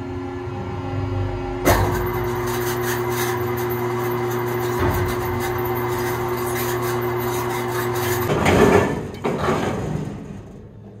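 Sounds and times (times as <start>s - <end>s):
rattling clatter: 1.7s - 11.0s.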